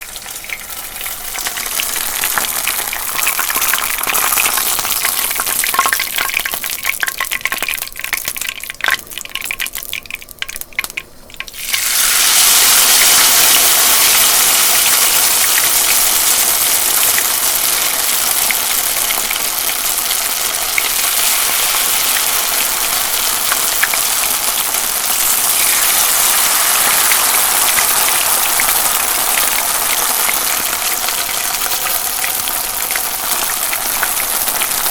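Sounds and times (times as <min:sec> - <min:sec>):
food frying in hot oil: 0:00.0 - 0:34.9
loud dense sizzle: 0:00.0 - 0:34.9.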